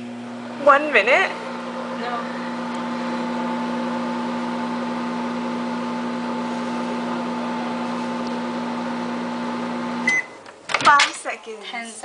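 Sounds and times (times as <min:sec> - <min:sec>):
microwave oven humming: 0:00.0 - 0:10.7.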